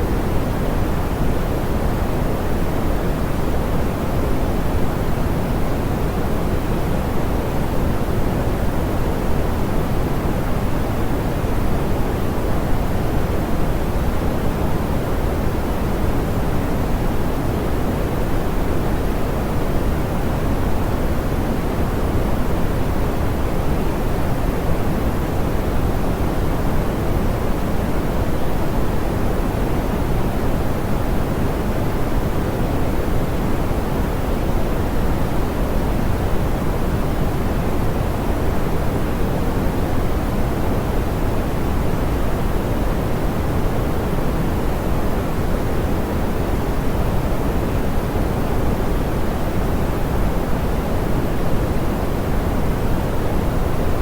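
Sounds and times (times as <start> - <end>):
soft pink noise hiss: 0.0 - 54.0.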